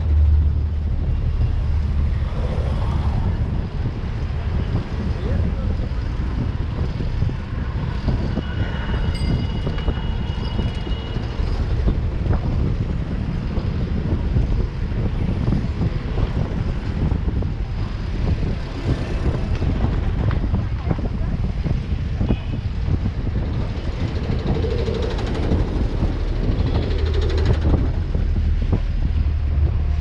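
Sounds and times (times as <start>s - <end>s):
passing city traffic: 0.0s - 30.0s
wind on microphone: 0.0s - 30.0s.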